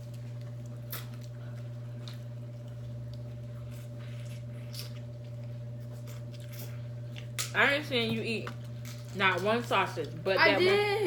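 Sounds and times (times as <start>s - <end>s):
wet squelches of eating: 0.0s - 10.9s
steady low hum: 0.0s - 11.0s.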